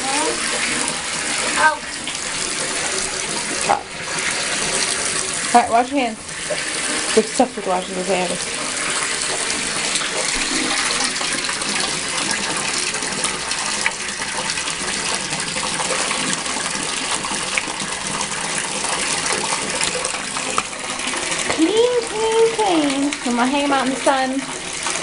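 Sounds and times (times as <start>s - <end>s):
tap water running into basin: 0.0s - 25.0s.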